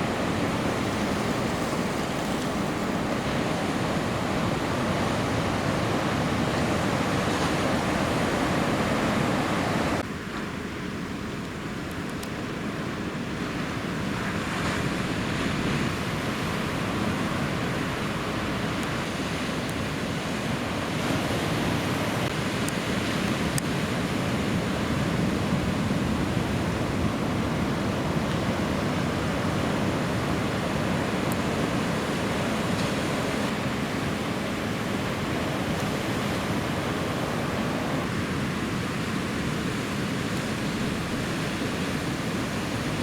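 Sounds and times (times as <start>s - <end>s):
ocean waves breaking: 0.0s - 11.0s, 12.5s - 43.0s.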